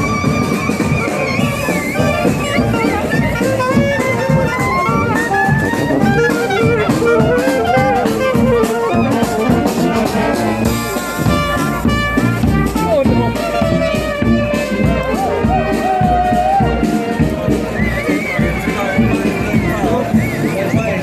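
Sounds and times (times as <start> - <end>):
brass horns playing melody: 0.0 - 20.5
marching drum beat: 0.0 - 21.0.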